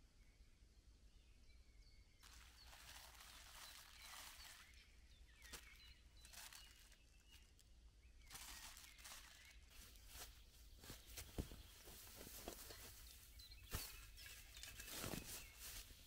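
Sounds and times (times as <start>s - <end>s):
small birds chirping: 0.1s - 16.0s
soft rustling hiss: 2.2s - 7.6s, 8.2s - 16.0s.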